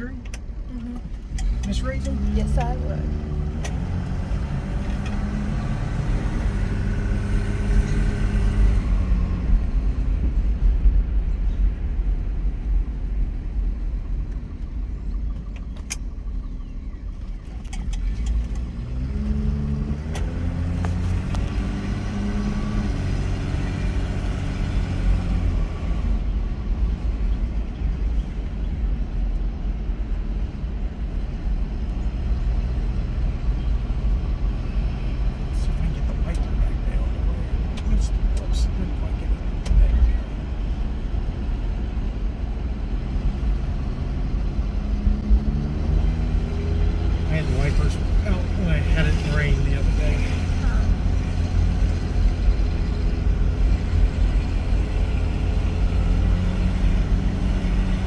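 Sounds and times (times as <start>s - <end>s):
car engine running: 0.0s - 58.0s
road rumble: 0.0s - 58.0s.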